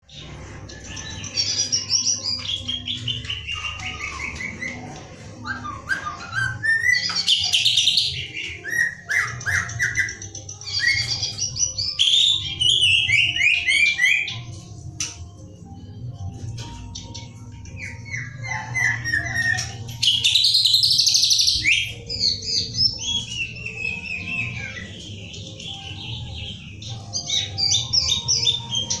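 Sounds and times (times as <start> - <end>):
songbird singing: 0.0 - 29.0.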